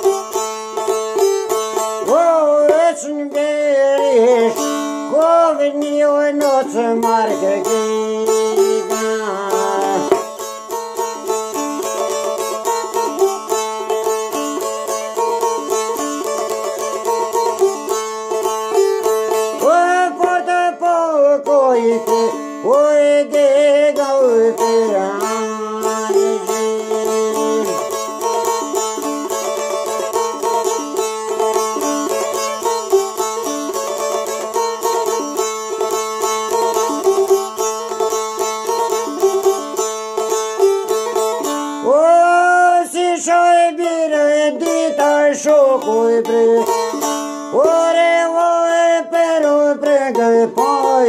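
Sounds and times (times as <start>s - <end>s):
man singing folk song: 0.0s - 51.0s
plucked lute: 0.0s - 51.0s.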